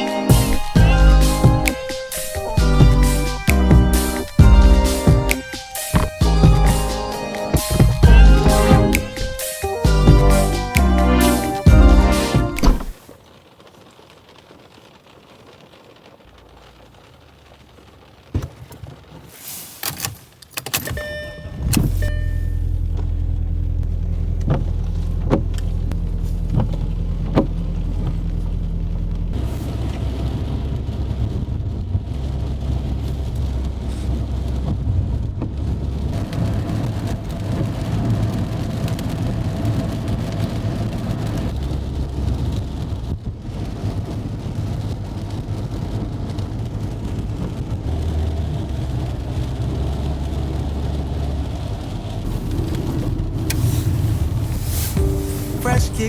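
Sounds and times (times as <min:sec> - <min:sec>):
car engine hum: 0:00.0 - 0:13.0, 0:20.3 - 0:56.0
heavy rain and wet road noise: 0:00.0 - 0:56.0.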